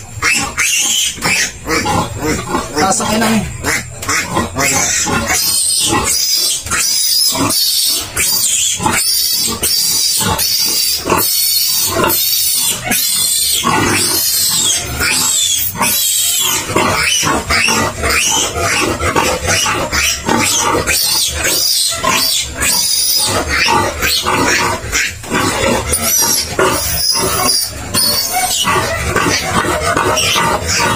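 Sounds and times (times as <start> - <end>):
piglet squealing: 0.0 - 30.9.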